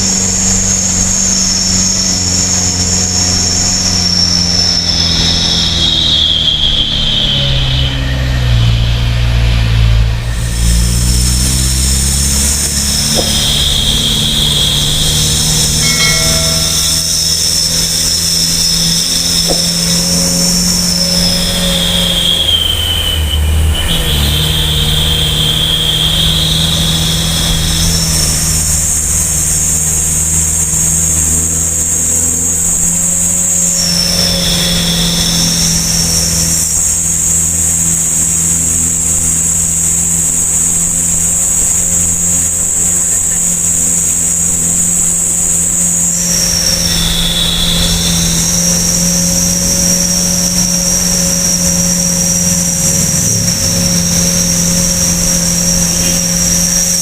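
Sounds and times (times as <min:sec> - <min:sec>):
diesel truck engine labouring: 0:00.0 - 0:57.0
high whine: 0:00.0 - 0:57.0.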